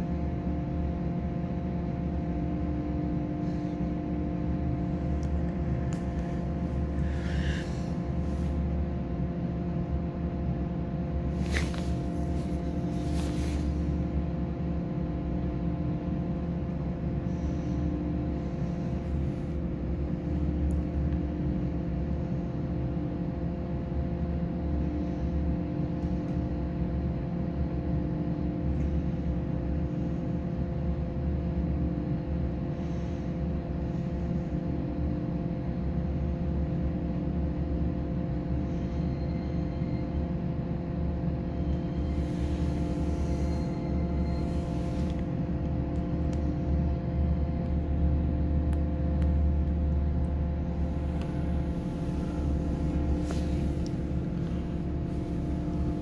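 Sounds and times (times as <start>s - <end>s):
machine hum with fixed tones: 0.0s - 56.0s.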